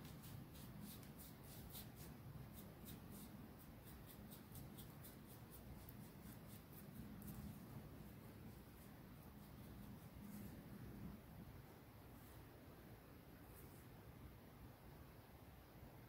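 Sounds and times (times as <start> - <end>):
paintbrush strokes: 0.0 - 14.2
low room hum: 0.0 - 16.0.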